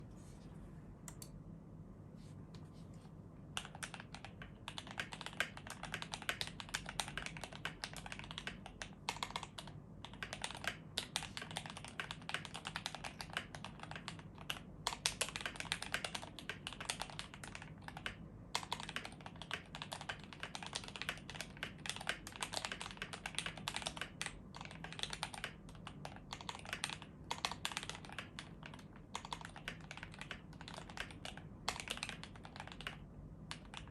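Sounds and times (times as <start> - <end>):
mechanical keyboard typing: 3.6 - 33.9.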